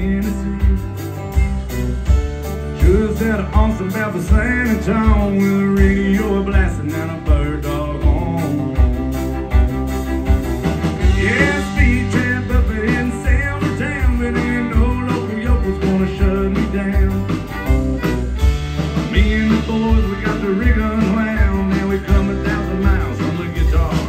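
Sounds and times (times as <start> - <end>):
country band playing: 0.0 - 24.0
fiddle: 0.0 - 24.0.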